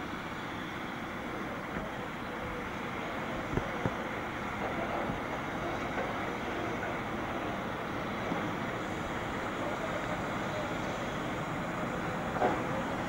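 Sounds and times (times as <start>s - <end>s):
distant diesel locomotive rumble: 0.0s - 13.0s.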